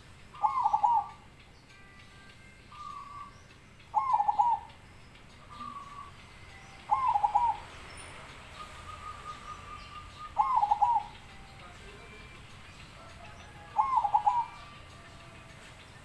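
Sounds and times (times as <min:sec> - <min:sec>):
dove cooing: 0:00.0 - 0:01.3, 0:02.7 - 0:16.0.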